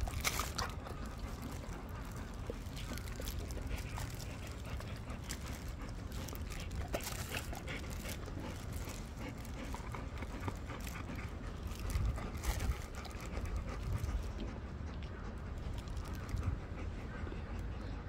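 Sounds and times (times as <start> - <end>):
dogs panting: 0.0 - 18.0.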